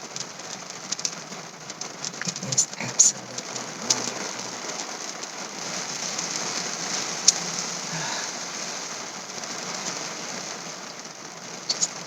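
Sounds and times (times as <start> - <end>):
rain on car roof: 0.0 - 12.0
sharp raindrop hit: 0.0 - 12.0.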